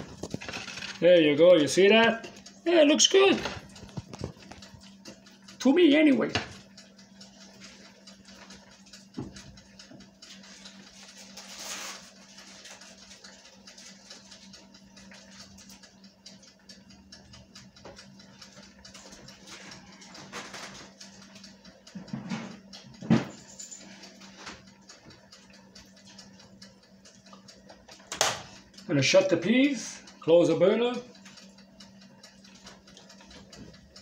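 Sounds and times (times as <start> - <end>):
kitchen appliance humming: 0.0 - 34.0.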